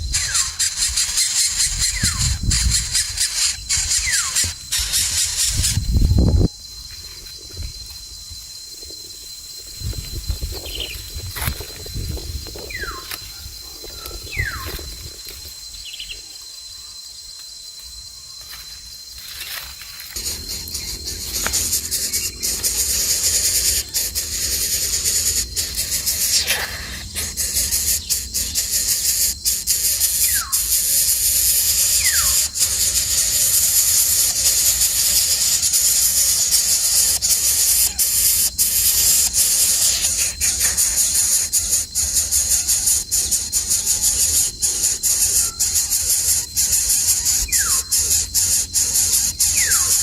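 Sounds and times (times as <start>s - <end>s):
high-pitched insect drone: 0.0s - 50.0s.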